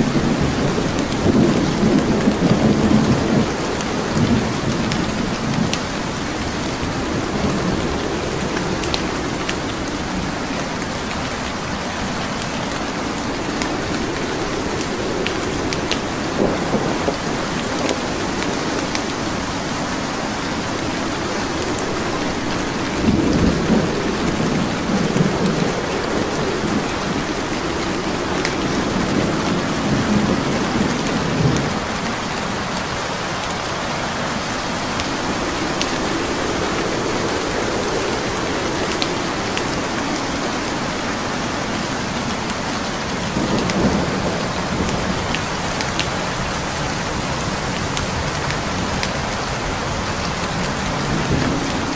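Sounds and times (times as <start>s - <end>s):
steady rain hissing: 0.0s - 51.9s
wood fire crackling: 0.0s - 51.9s.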